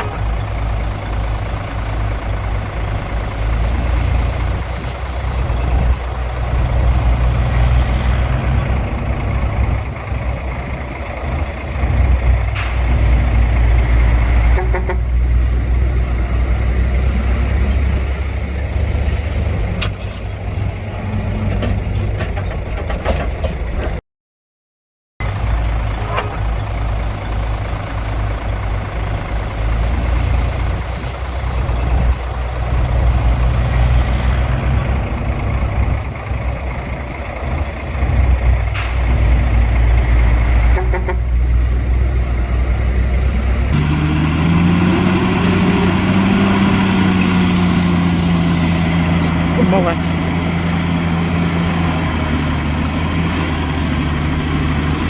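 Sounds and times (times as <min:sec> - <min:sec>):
heavy diesel machinery running: 0:00.0 - 0:24.0, 0:25.2 - 0:55.0.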